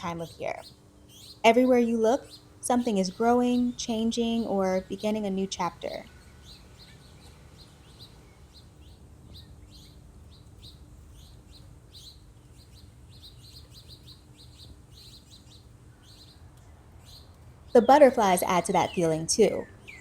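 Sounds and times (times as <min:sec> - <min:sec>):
faint low hum: 0:00.0 - 0:20.0
small songbird chirping: 0:00.0 - 0:20.0.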